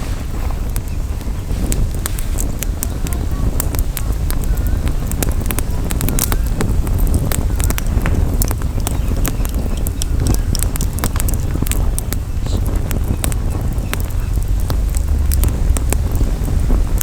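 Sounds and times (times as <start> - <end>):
campfire crackling and popping: 0.0 - 17.0
wind rumble on microphone: 0.0 - 17.0.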